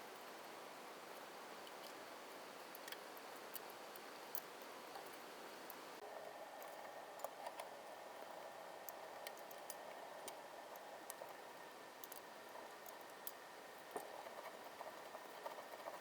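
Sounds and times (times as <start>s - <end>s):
faint small ticks and clicks: 0.0s - 5.9s, 6.6s - 16.0s.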